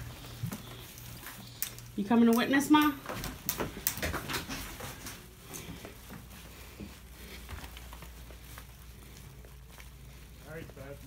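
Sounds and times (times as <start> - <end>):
faint footsteps: 0.0 - 11.0.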